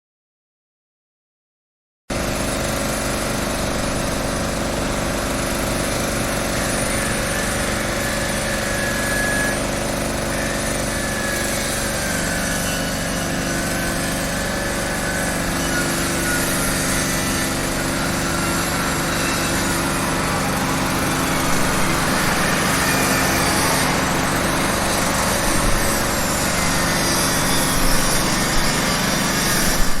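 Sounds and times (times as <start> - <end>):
machinery engines running: 2.4 - 30.0.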